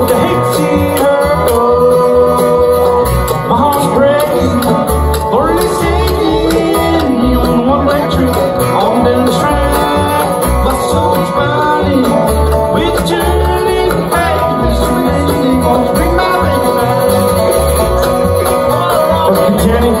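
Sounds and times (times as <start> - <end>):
acoustic guitar: 0.0 - 20.0
dobro: 0.0 - 20.0
mandolin: 0.0 - 20.0
upright bass steady beat: 0.0 - 20.0.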